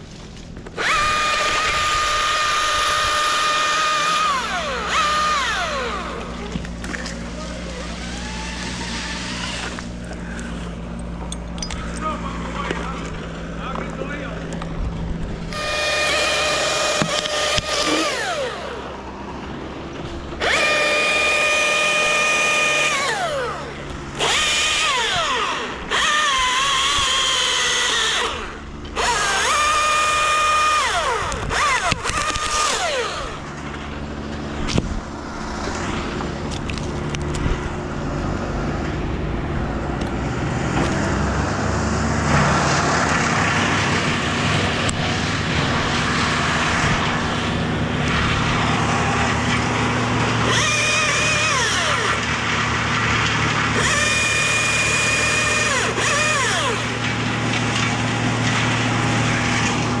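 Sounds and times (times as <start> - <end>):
chainsaw whining: 0.0 - 60.0
low engine drone: 0.0 - 60.0.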